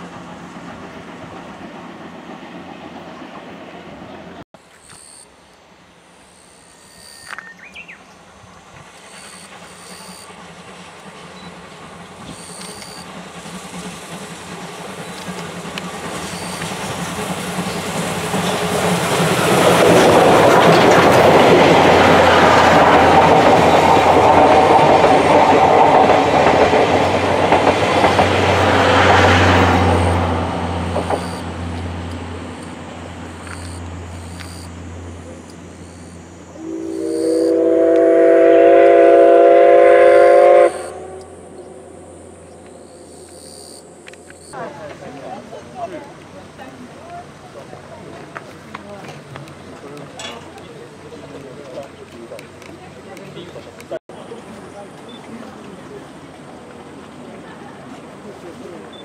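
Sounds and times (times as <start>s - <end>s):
steam locomotive passing: 0.0s - 4.8s, 7.7s - 59.0s.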